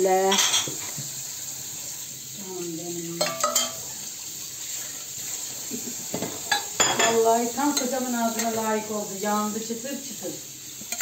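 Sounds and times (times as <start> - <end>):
pastry sizzling in a pan: 0.0 - 11.0.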